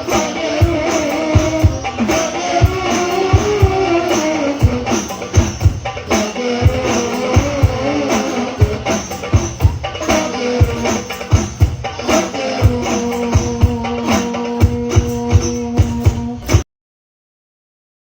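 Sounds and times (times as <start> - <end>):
frame drums and bass drum: 0.0 - 16.6.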